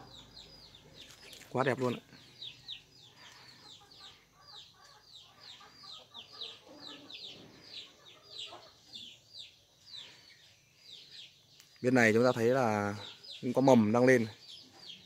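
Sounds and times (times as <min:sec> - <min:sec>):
high bird chirps: 0:00.0 - 0:15.0.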